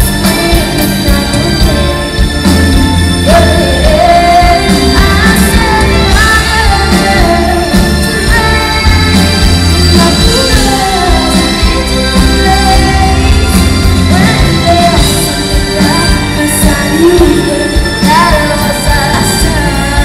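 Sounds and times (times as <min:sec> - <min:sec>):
bass line: 0:00.0 - 0:20.0
pop-rock band playing: 0:00.0 - 0:20.0
woman singing: 0:00.0 - 0:20.0.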